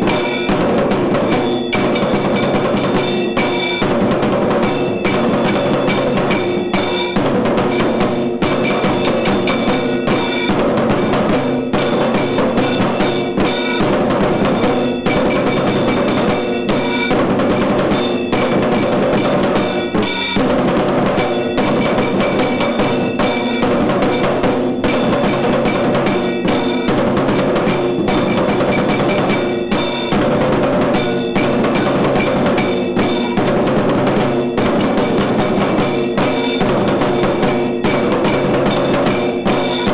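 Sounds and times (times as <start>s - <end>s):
fast dense drumming: 0.0s - 39.9s.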